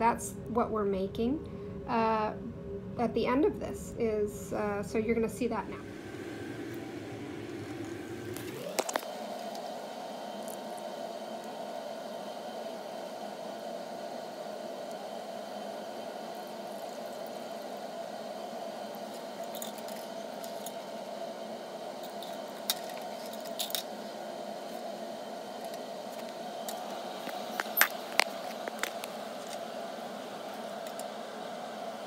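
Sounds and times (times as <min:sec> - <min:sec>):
low hiss and hum: 0:00.0 - 0:32.0.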